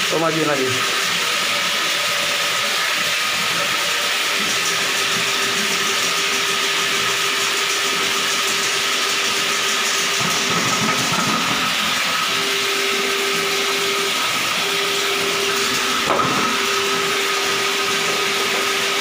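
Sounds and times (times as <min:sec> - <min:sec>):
drain auger motor running: 0:00.0 - 0:19.0.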